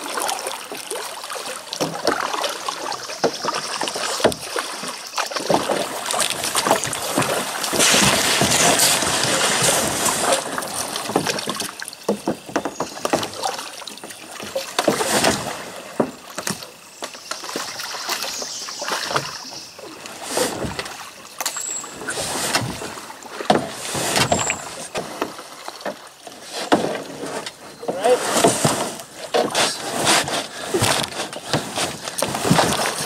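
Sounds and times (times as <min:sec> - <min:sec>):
paddle splashes: 0:00.0 - 0:33.0.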